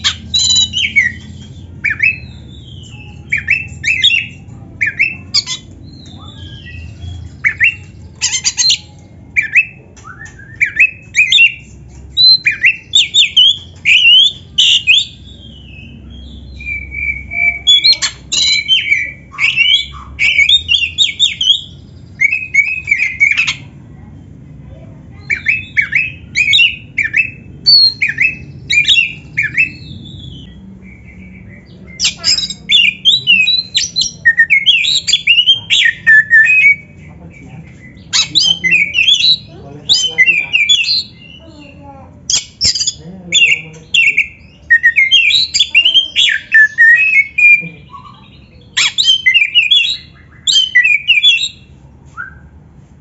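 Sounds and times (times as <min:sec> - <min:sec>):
bird singing whistles and chatters: 0:00.0 - 0:24.1, 0:25.1 - 0:52.6.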